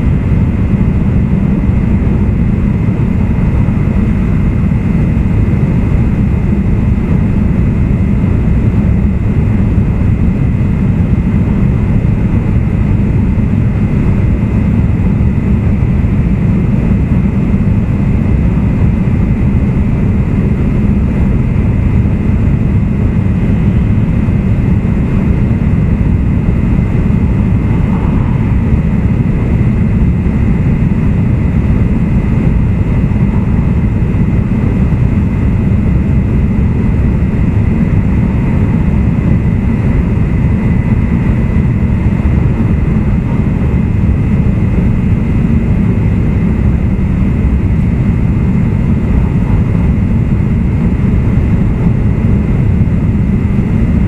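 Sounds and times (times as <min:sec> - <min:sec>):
faint high hum: 0:00.0 - 0:54.0
train running rumble: 0:00.0 - 0:54.0.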